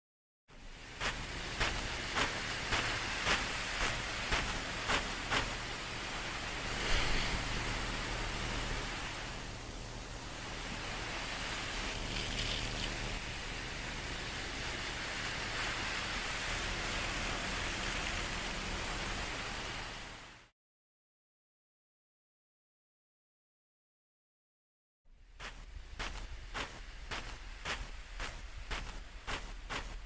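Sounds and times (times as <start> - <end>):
steady rushing noise: 0.5 - 20.5, 25.2 - 30.0.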